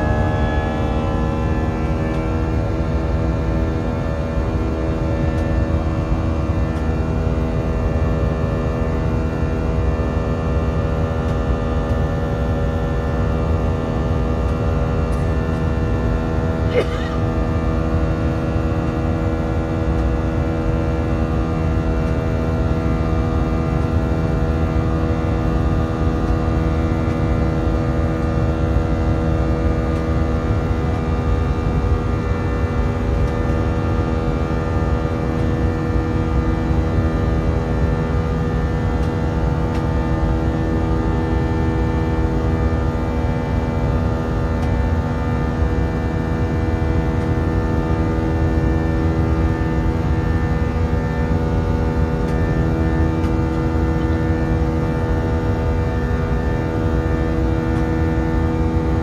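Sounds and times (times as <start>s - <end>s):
jet engine droning in cabin: 0.0s - 59.0s.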